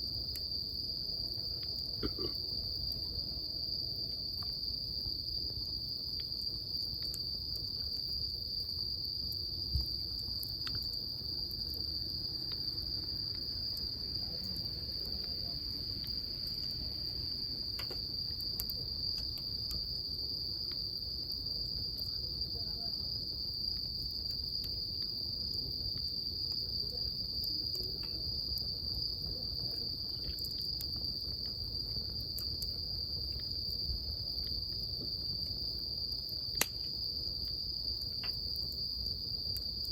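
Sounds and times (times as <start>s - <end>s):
bonfire pops and crackles: 0.0s - 39.9s
insects trilling: 0.0s - 39.9s.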